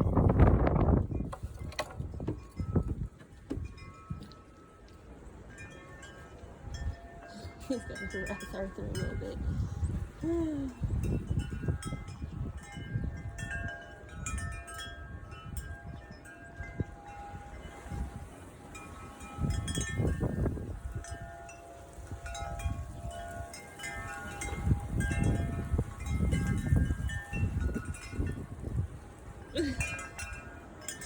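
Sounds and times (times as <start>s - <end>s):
wind buffeting microphone: 0.0s - 31.0s
wind chimes ringing: 0.1s - 31.0s.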